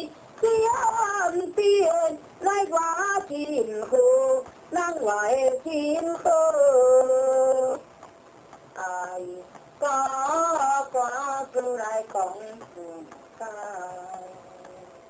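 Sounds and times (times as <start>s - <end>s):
woman singing opera melody: 0.0s - 7.8s, 8.8s - 15.0s.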